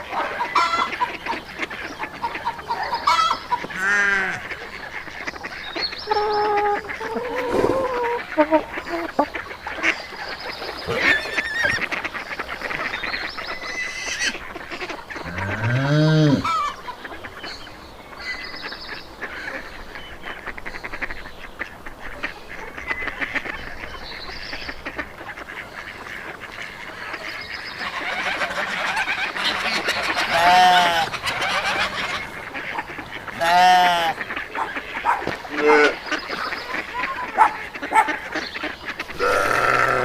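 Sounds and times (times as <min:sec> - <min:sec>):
geese honking: 0:00.0 - 0:40.0
poultry calls: 0:00.0 - 0:40.0.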